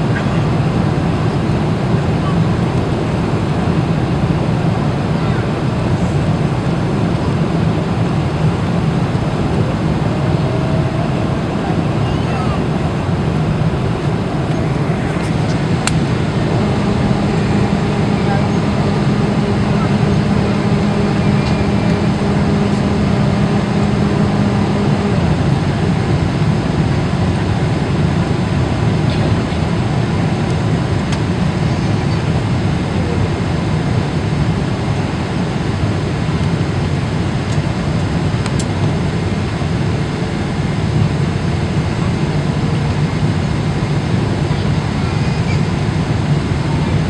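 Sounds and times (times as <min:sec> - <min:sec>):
jet engine cabin noise: 0:00.0 - 0:47.0
low hum: 0:00.0 - 0:47.0.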